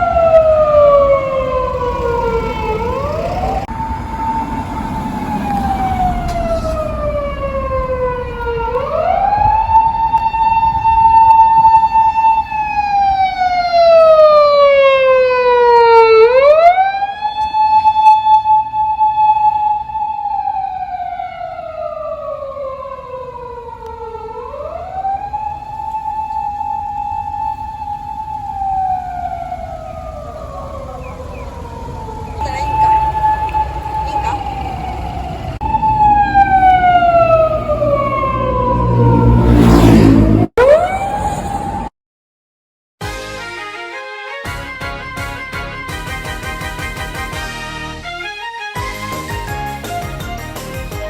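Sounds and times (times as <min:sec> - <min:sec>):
low rumble of traffic: 0:00.0 - 0:41.9
police car siren wailing: 0:00.0 - 0:41.9.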